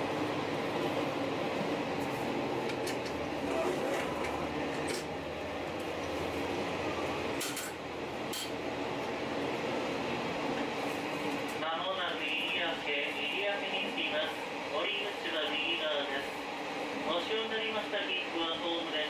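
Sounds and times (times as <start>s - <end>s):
train engine and wheel noise: 0.0s - 19.0s.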